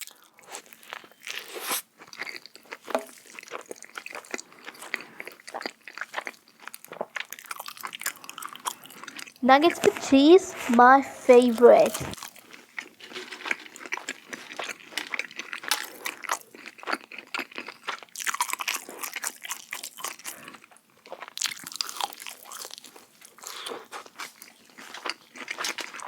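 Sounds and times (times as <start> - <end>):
crunching and chewing food: 0.0 - 9.4, 12.1 - 26.0.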